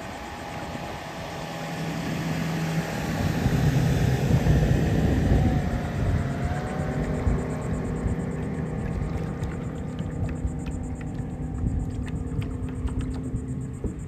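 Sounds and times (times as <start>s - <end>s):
engine passing by: 0.0s - 13.8s.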